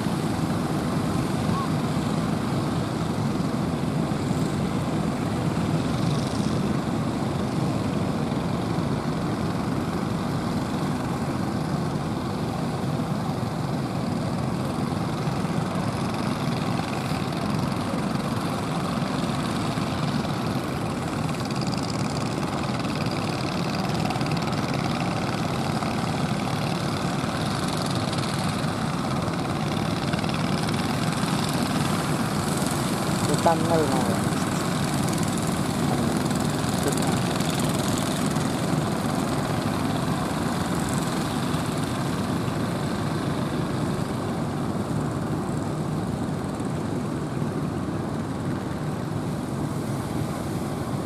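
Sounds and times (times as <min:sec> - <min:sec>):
boat engines running: 0:00.0 - 0:51.0.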